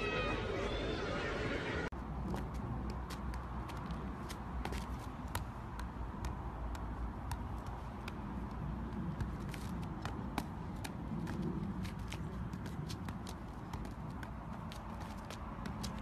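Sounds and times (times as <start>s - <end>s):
football kicks tapping: 2.3s - 16.0s.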